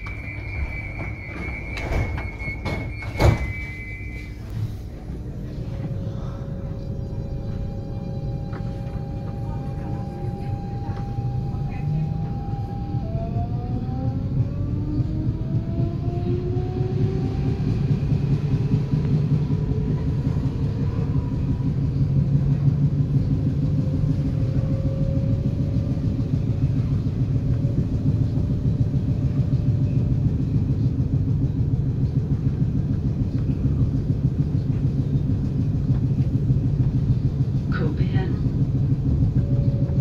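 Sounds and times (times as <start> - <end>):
train motors whining: 0.0 - 40.0
wheels rumbling on track: 0.0 - 40.0.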